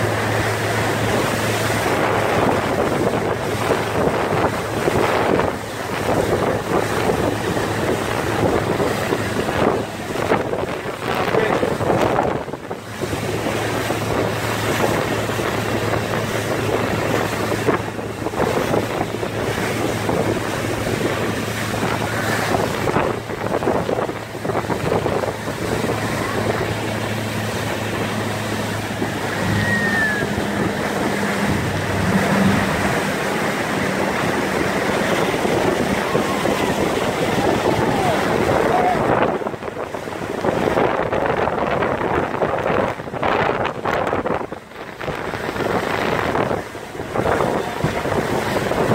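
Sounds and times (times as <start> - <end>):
churning wake water: 0.0 - 48.9
speedboat engine: 0.0 - 48.9
wind buffeting microphone: 0.0 - 48.9.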